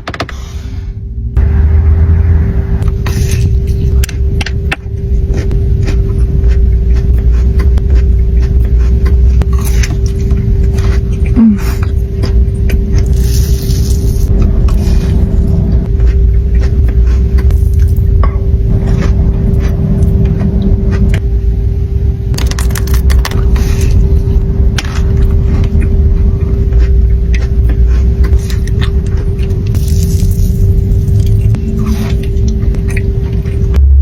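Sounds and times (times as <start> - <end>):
constant hum: 0.0 - 34.0
low rumble: 0.5 - 34.0.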